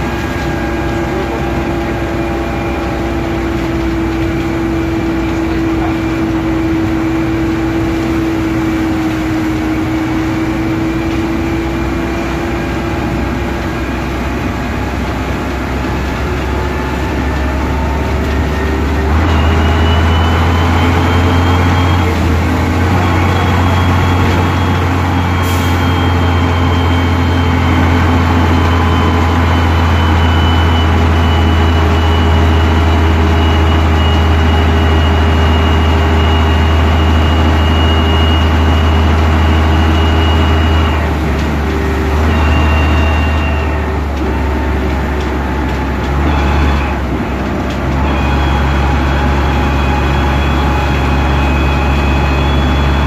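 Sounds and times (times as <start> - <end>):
bus engine and drivetrain: 0.0 - 53.0
higher whine: 0.0 - 53.0
steady whine: 0.0 - 53.0.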